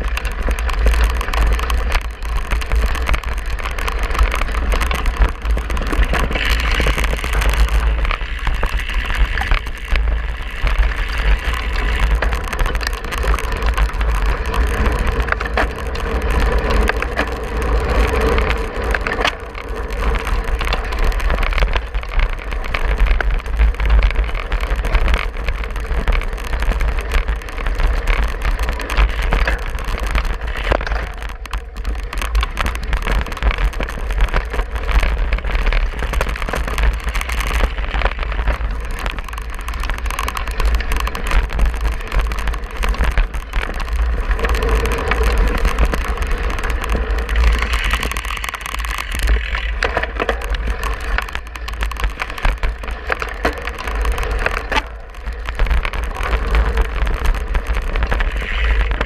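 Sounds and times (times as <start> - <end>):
bike rattling over bumpy grass: 0.0 - 59.0
wind on microphone: 0.0 - 59.0.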